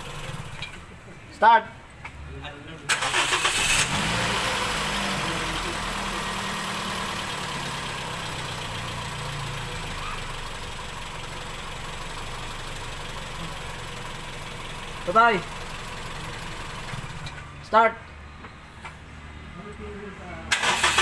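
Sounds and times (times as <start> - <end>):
car engine idling: 0.0 - 1.3, 2.9 - 18.8.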